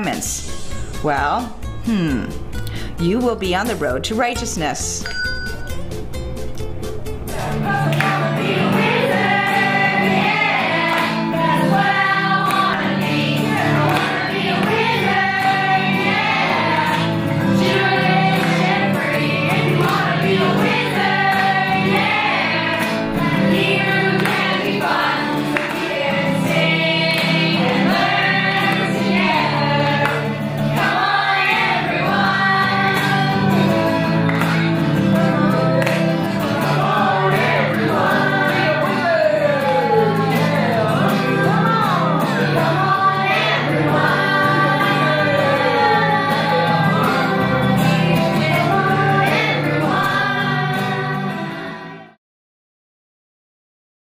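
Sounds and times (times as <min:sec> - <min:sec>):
group singing over instrumental backing: 0:07.3 - 0:52.2.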